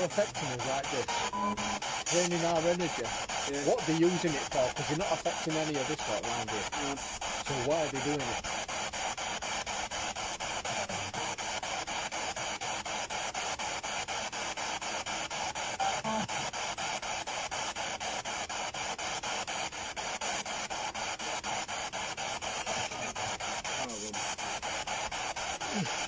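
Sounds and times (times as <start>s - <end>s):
chopped radio static hiss: 0.0s - 26.0s.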